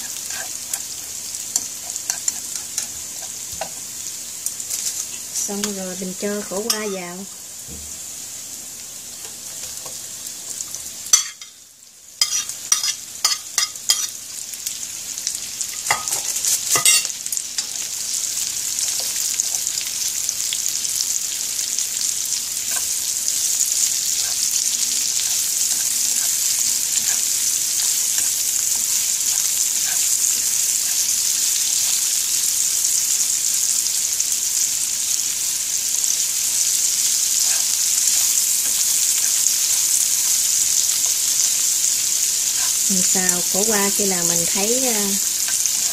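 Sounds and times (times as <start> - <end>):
food sizzling in pan: 0.0 - 45.9.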